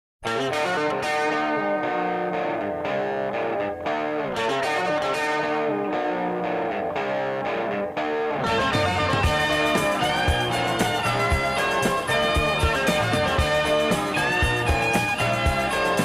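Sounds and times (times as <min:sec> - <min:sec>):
guitar background music: 0:00.2 - 0:16.0.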